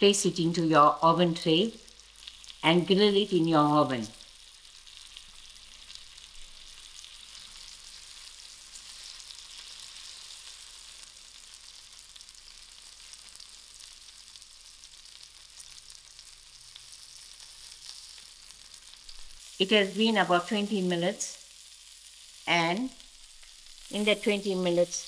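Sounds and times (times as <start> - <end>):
skewers sizzling on griddle pan: 0.0 - 25.0.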